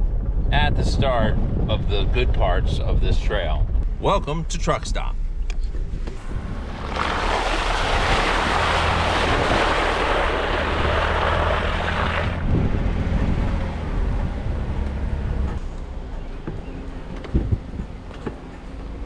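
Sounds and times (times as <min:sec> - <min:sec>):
car engine low hum: 0:00.0 - 0:19.0.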